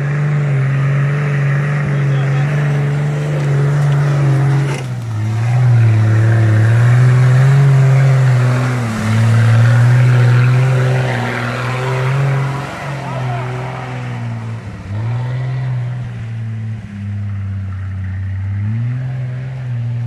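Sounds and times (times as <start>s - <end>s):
engine revving hard: 0.0s - 16.5s.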